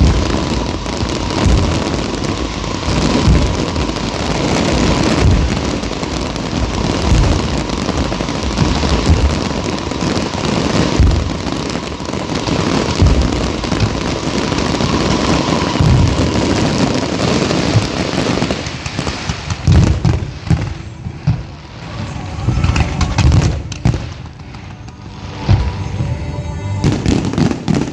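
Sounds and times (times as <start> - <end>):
deep fireworks booms: 0.0 - 27.9
fireworks crackling and popping: 0.0 - 27.9.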